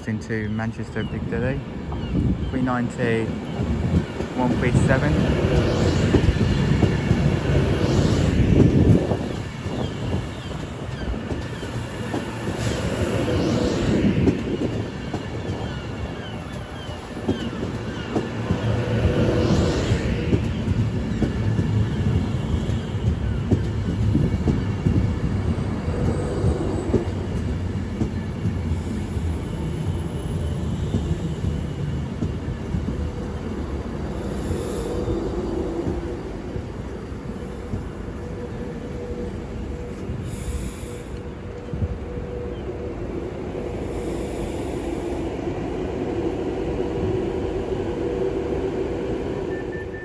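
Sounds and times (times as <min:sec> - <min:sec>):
electric train rumbling: 0:00.0 - 0:50.0.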